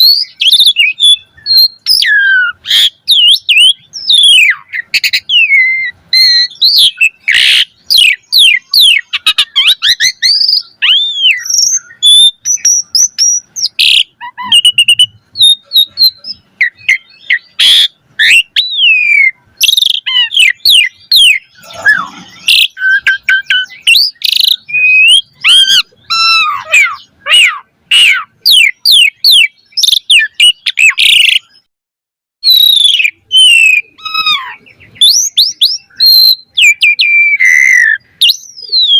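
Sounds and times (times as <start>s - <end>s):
starling singing: 0.0s - 31.7s, 32.4s - 38.9s.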